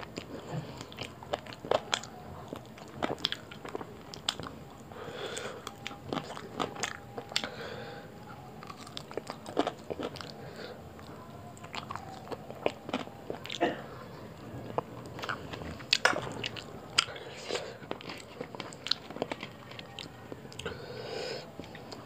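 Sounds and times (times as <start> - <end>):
man chewing: 0.0 - 22.0.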